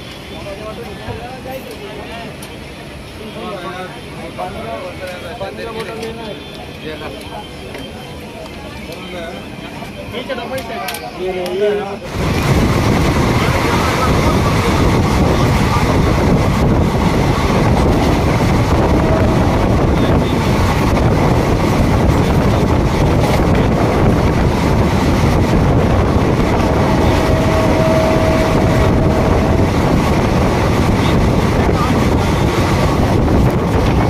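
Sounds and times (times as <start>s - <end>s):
train rushing at speed: 0.0s - 34.0s.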